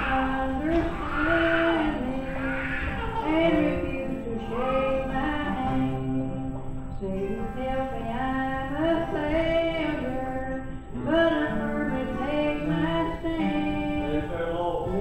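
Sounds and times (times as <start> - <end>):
musical backing: 0.0 - 15.0
woman singing gospel: 0.0 - 15.0.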